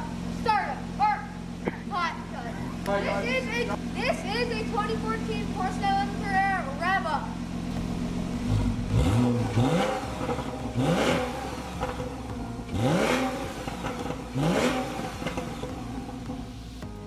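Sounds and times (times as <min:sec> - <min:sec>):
car engine revving from idle: 0:00.0 - 0:16.9.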